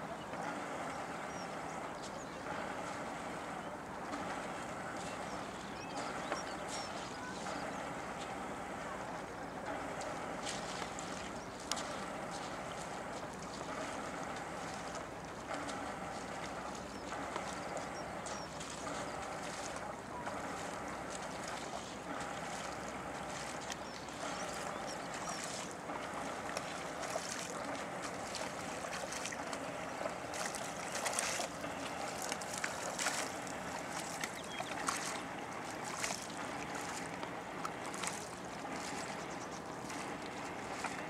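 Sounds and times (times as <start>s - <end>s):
paddle splashes: 0.0s - 41.0s
water wash: 0.0s - 41.0s
wind: 0.0s - 41.0s.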